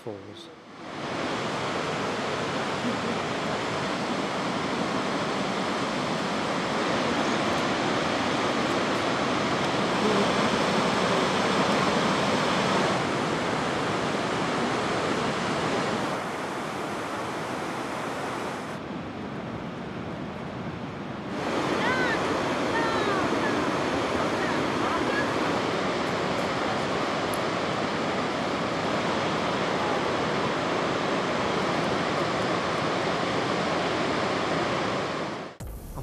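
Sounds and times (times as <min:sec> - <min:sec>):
waterfall rushing: 0:00.7 - 0:18.8, 0:21.3 - 0:36.0.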